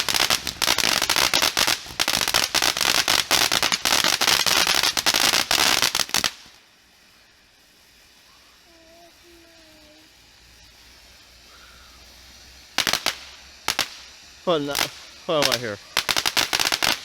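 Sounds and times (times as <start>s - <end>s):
firework crackling pops: 0.0s - 17.0s.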